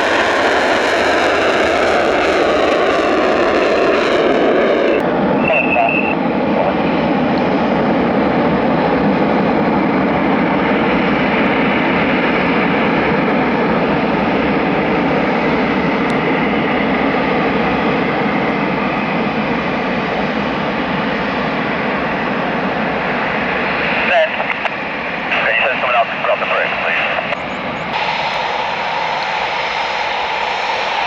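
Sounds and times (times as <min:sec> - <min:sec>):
loud jet engine noise: 0:00.0 - 0:31.0.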